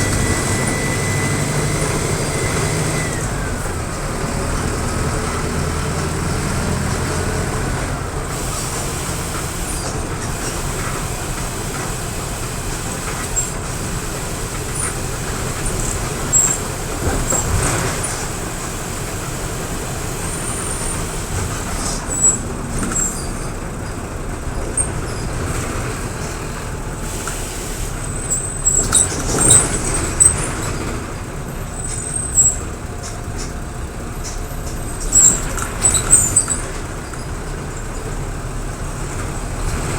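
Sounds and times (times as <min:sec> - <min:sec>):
bus body squeaks and rattles: 0:00.0 - 0:39.9
bus engine hum: 0:00.0 - 0:39.9
road noise: 0:00.0 - 0:39.9.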